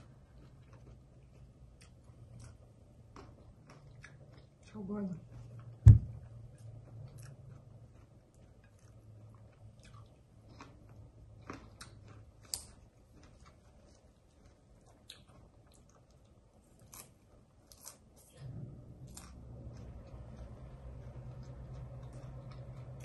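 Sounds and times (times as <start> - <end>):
person chewing crunchy salad: 0.0 - 4.7, 5.3 - 18.2, 19.0 - 23.0.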